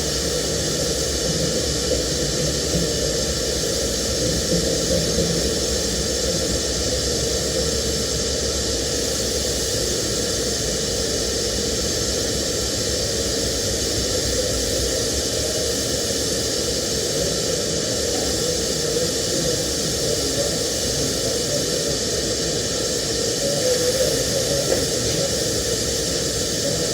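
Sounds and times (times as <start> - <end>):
welding arc hissing: 0.0 - 26.9.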